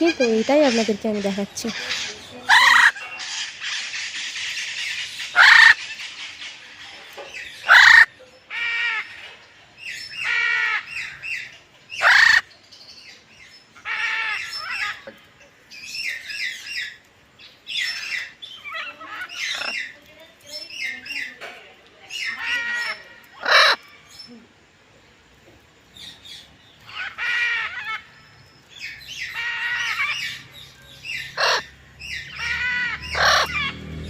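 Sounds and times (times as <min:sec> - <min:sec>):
birds squawking harshly: 0:00.0 - 0:21.4, 0:22.1 - 0:24.3, 0:26.0 - 0:34.0.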